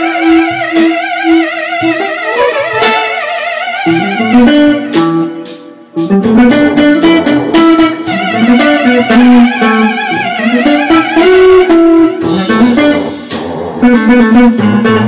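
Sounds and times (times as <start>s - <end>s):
electric guitar: 0.0s - 15.0s
keyboard chords: 0.0s - 15.0s.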